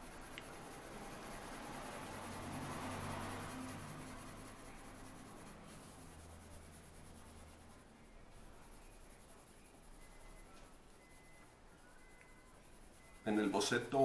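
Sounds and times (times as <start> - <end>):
pencil scratching on paper: 0.0 - 14.0.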